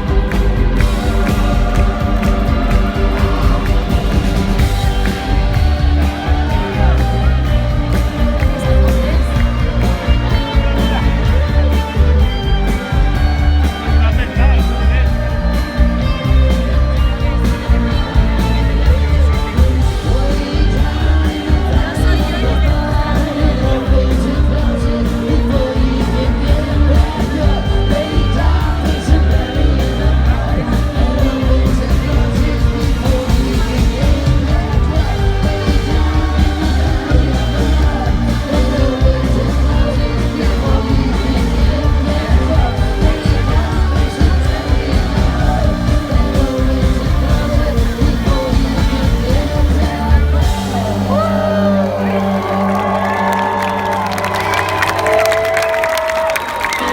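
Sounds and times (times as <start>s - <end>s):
live rock band playing: 0.0s - 53.0s
person singing: 0.0s - 55.5s.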